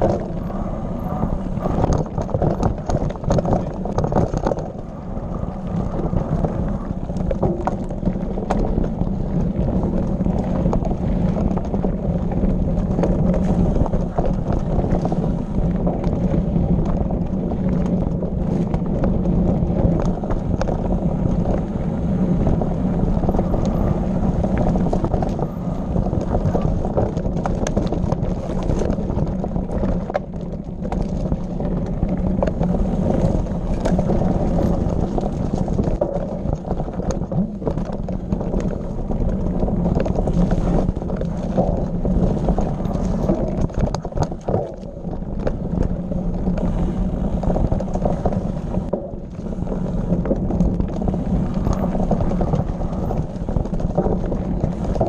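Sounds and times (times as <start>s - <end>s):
bike clicks and rattles: 0.0s - 55.0s
wind on microphone: 0.0s - 55.0s.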